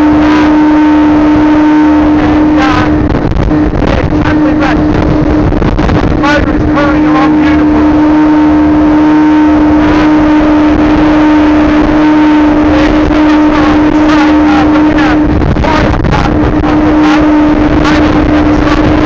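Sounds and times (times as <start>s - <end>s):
outboard motor running: 0.0s - 19.0s
wind noise: 0.0s - 19.0s.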